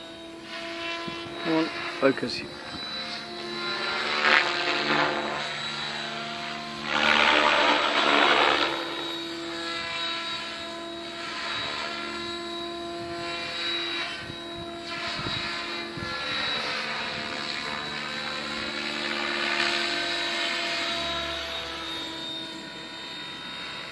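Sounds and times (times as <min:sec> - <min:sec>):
helicopter motor and rotor whine: 0:00.0 - 0:23.9.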